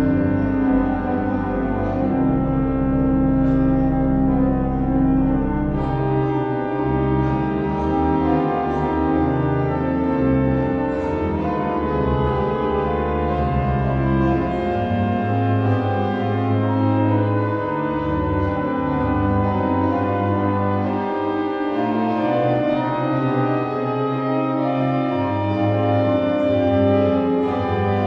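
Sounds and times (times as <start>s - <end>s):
slow classical music: 0.0s - 28.0s.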